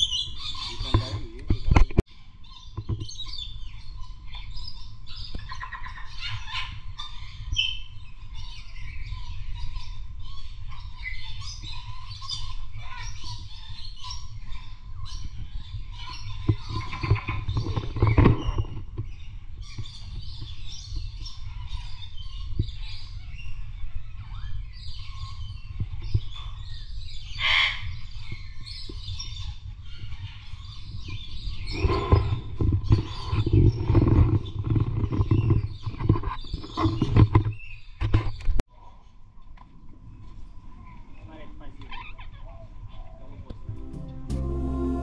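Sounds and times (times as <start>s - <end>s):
many birds chirping: 0.0s - 39.2s.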